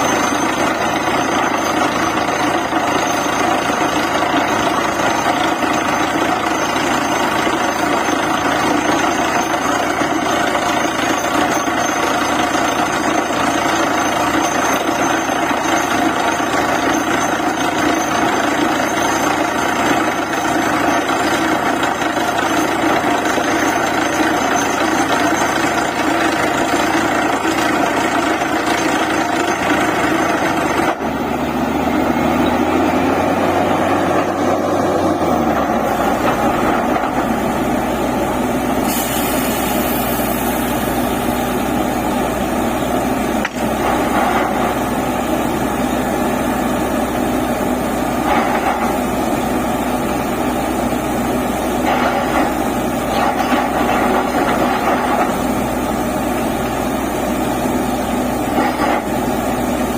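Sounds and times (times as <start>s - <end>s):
drilling rig engine and machinery: 0.0s - 59.9s
steady low engine tones: 0.0s - 59.9s.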